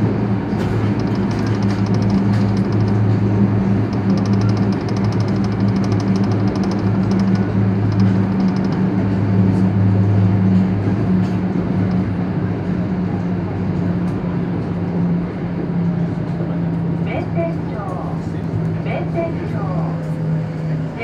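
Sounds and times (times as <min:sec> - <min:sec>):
train rumbling at speed: 0:00.0 - 0:21.0.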